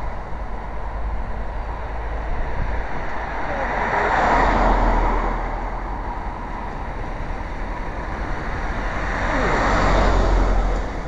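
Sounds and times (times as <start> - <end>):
vehicles passing on road: 0.0 - 11.0.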